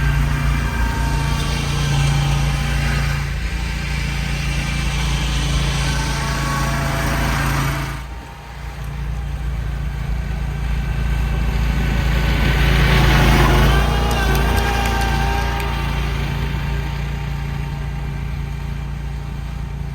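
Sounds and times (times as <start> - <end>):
small engine running: 0.0 - 19.9.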